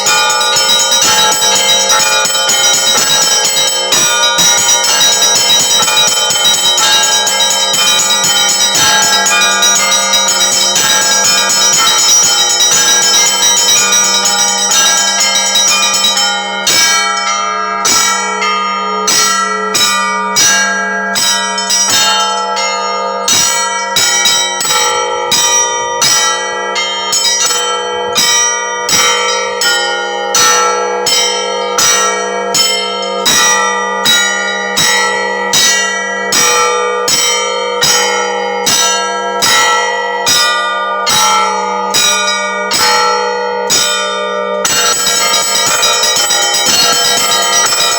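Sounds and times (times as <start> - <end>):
church bells ringing: 0.0 - 47.9
low bell hum: 0.0 - 47.9.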